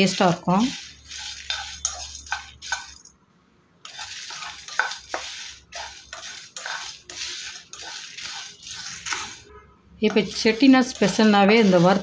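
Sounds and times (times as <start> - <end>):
utensil stirring spices in a pan: 0.0 - 3.1, 3.8 - 12.0.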